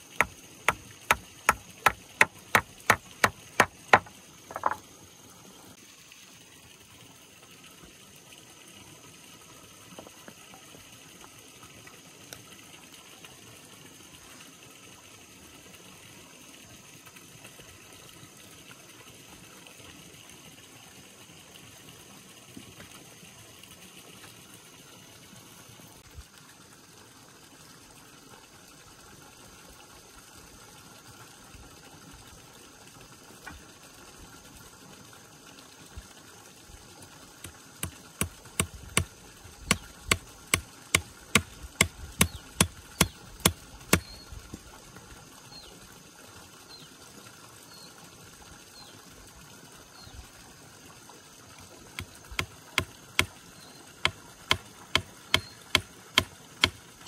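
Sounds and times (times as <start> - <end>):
faint trickle of water: 3.4 - 57.0.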